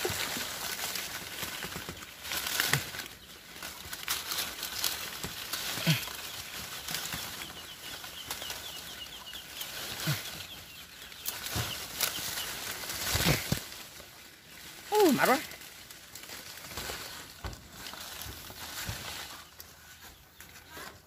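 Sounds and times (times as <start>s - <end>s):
leaves and twigs rustling: 0.0s - 21.0s.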